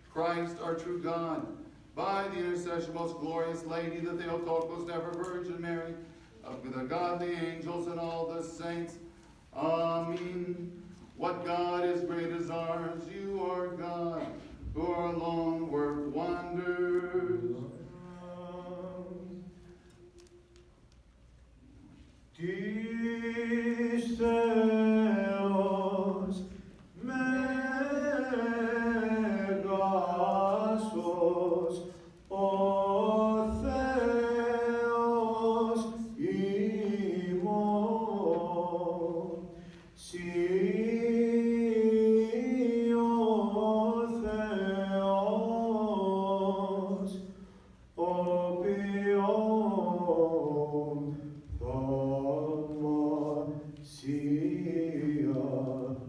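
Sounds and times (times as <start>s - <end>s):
unaccompanied liturgical chant: 0.0s - 19.9s, 22.3s - 56.0s.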